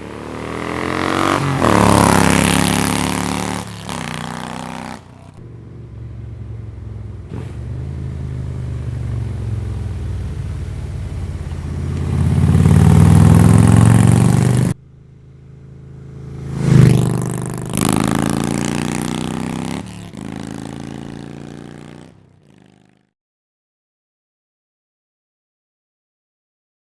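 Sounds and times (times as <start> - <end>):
motorcycle engine revving: 0.0 - 23.1.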